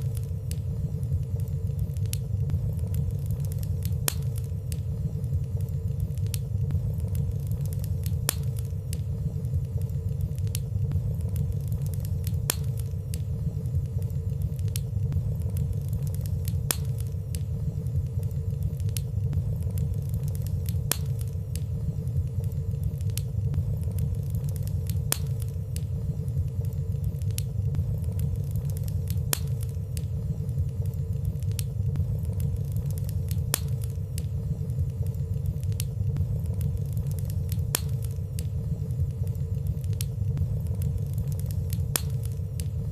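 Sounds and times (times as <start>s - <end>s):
fire rumbling: 0.0s - 42.9s
light fire crackles: 0.0s - 42.9s.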